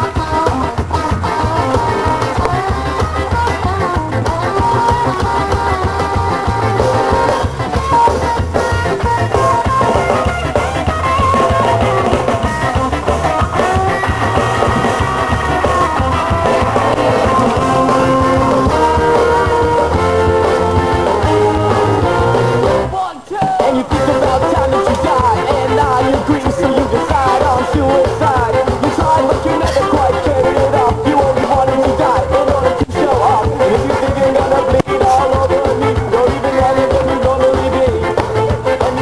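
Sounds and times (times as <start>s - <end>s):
ska-punk song with singing: 0.0s - 39.0s.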